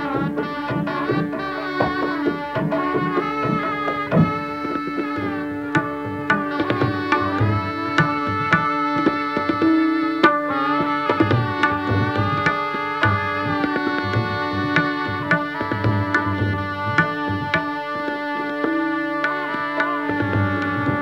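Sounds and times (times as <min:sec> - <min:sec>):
shehnai melody: 0:00.0 - 0:21.0
tabla strokes: 0:00.0 - 0:21.0.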